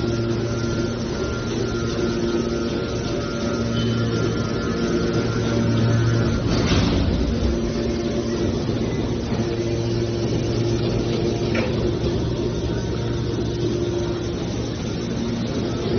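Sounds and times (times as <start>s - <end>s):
scrap metal baler running: 0.0s - 15.9s.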